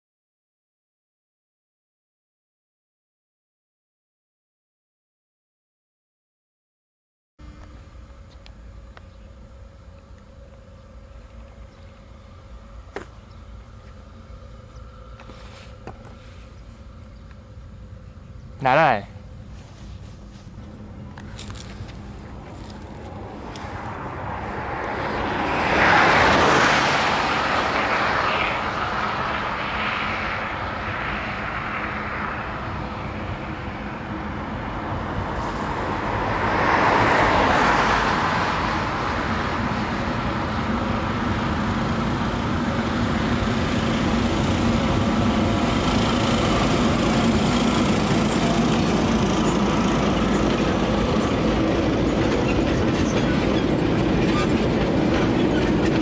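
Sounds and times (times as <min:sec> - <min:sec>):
train engine hum: 0:07.4 - 0:56.0
train wheel noise: 0:07.4 - 0:56.0.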